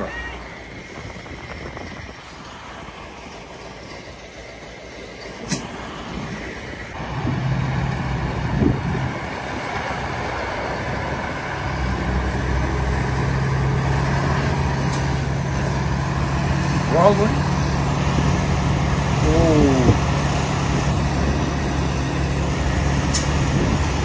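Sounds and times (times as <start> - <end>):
diesel tractor engines running: 0.0 - 24.0.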